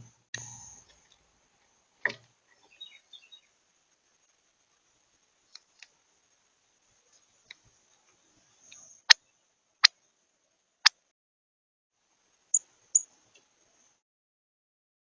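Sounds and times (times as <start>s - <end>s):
faint steady hiss: 0.0s - 11.1s, 12.0s - 14.0s.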